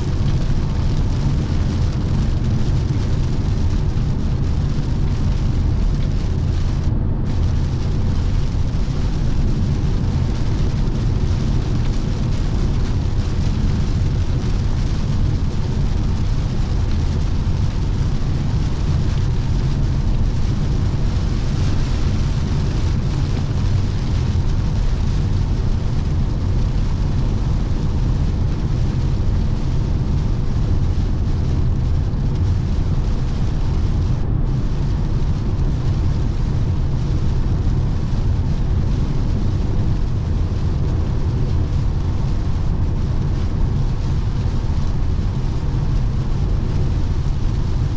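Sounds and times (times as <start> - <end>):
road and wind noise inside car: 0.0 - 47.9.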